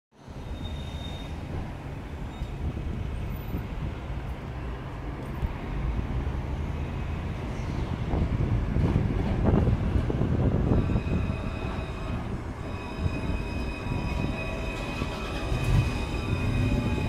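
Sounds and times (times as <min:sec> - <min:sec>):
tram wheels rumbling on rails: 0:00.2 - 0:17.0.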